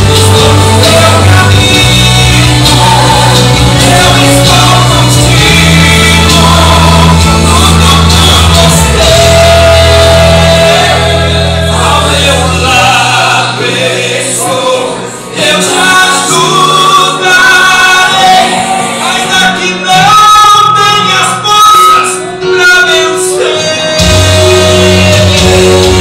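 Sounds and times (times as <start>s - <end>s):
heavy bass: 0.0s - 20.7s, 23.7s - 26.0s
loud backing music: 0.0s - 26.0s
person singing gospel song: 0.0s - 26.0s.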